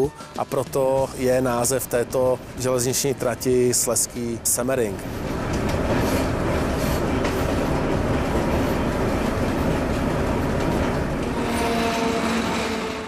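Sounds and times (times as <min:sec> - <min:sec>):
diesel train engine: 0:00.0 - 0:13.0
train wheels on rails: 0:00.0 - 0:13.0.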